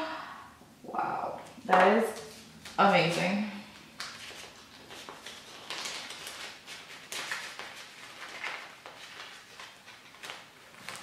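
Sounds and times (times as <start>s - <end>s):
banknotes and plastic pouch rustling: 1.7s - 11.0s.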